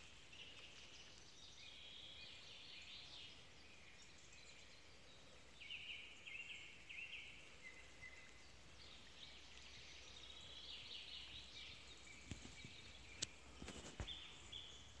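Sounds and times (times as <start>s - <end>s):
faint songbirds chirping: 0.0s - 15.0s.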